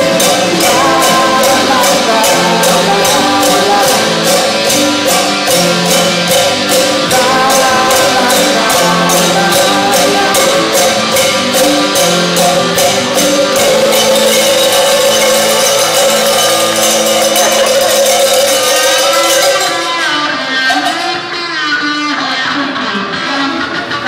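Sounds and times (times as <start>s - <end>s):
sharp percussion hit: 0.0s - 21.6s
live rock band playing: 0.0s - 24.0s.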